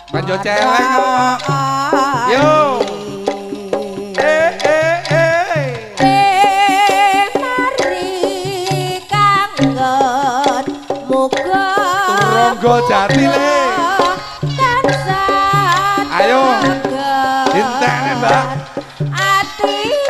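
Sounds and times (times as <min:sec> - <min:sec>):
high wavering melody: 0:00.0 - 0:03.2, 0:06.0 - 0:20.0
low struck notes: 0:00.0 - 0:19.2
hand drums beating: 0:00.0 - 0:20.0.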